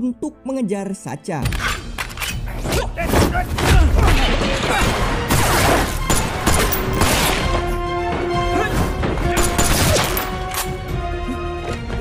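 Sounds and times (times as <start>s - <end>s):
action film music score: 0.0s - 12.0s.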